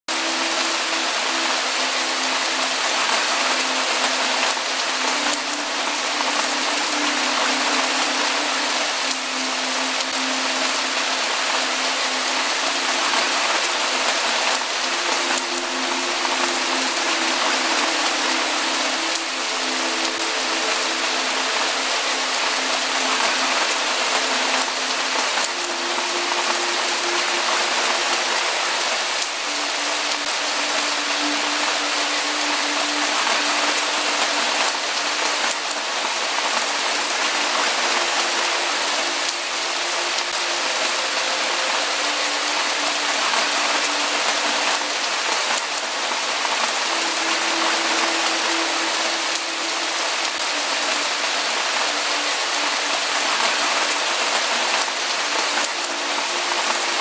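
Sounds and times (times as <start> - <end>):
steady rain hiss: 0.1 - 57.0.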